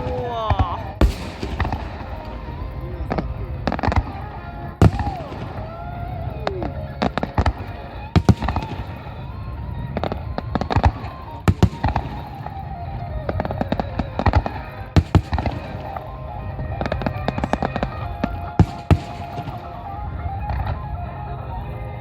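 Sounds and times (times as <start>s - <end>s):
fireworks bangs: 0.0s - 20.9s
rumble of distant fireworks: 0.0s - 22.0s.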